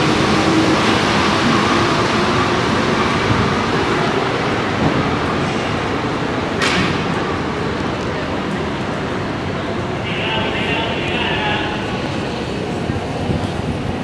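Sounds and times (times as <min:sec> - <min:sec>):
metro train rolling rumble: 0:00.0 - 0:14.0.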